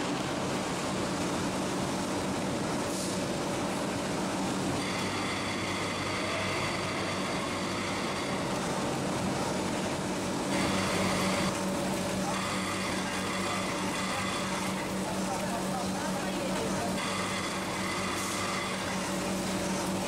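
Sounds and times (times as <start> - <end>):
packaging machine humming: 0.0 - 20.0.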